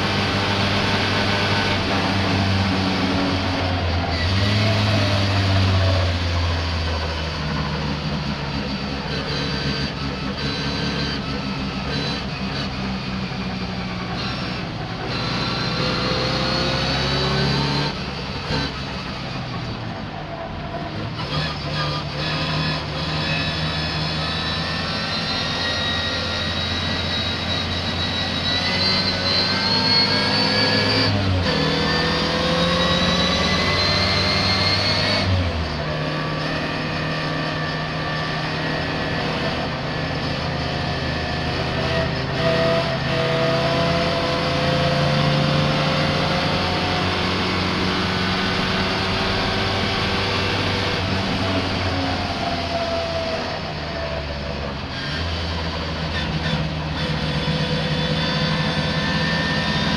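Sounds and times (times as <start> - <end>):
racing car engine accelerating: 0.0 - 59.9.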